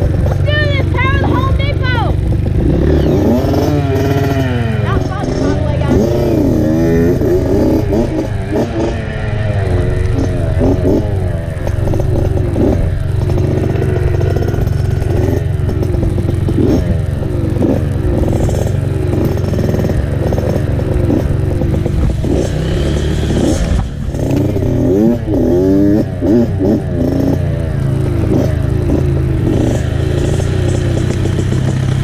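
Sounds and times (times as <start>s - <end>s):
dirt bike engine revving: 0.0s - 32.0s
low rumble: 0.0s - 32.0s.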